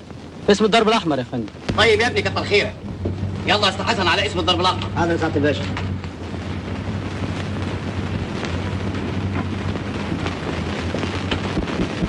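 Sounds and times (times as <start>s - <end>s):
film soundtrack surface noise: 0.0s - 12.0s.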